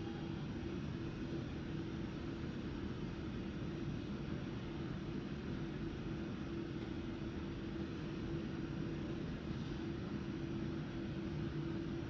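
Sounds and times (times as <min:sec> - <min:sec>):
constant low hum: 0:00.0 - 0:12.0
idling jet engine rumble and hiss: 0:00.0 - 0:12.0.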